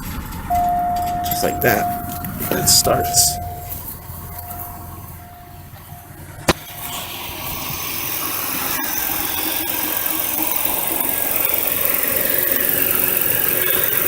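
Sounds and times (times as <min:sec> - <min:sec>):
car engine idling: 0:00.0 - 0:14.0
fuel injectors ticking: 0:00.0 - 0:14.0.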